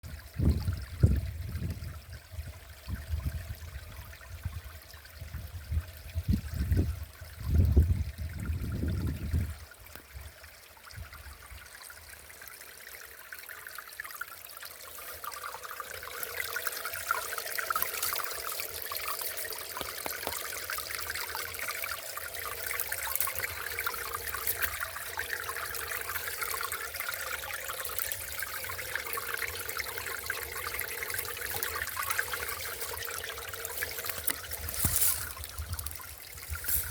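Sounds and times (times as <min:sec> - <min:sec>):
stream trickling over stones: 0:00.0 - 0:36.9.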